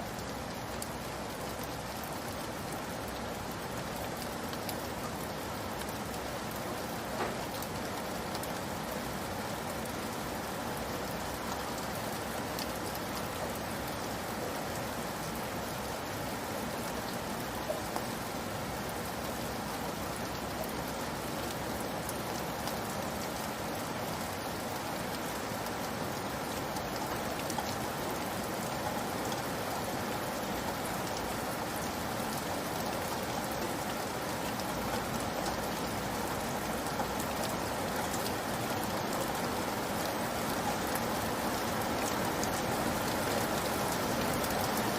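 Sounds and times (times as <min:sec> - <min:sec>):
steady rain pattering: 0:00.0 - 0:44.9.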